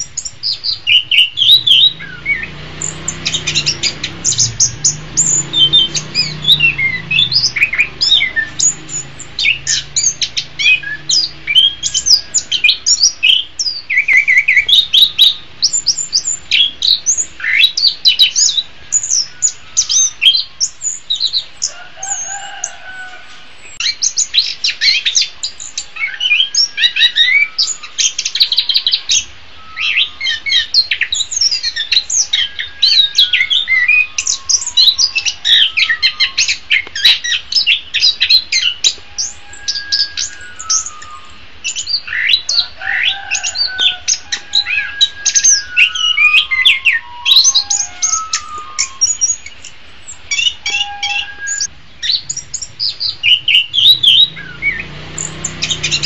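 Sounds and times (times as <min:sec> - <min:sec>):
thrush singing: 0:00.0 - 0:25.0, 0:26.2 - 0:56.0.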